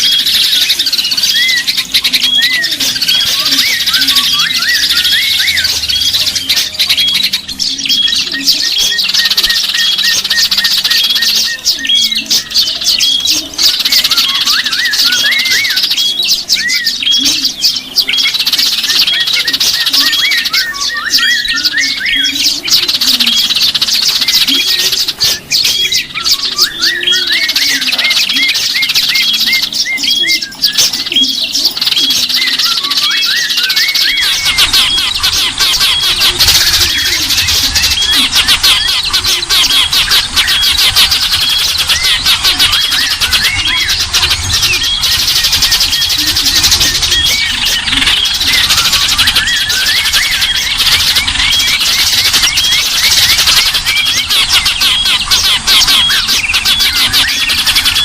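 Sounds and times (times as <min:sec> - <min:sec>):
small birds chirping chorus: 0:00.0 - 0:58.0.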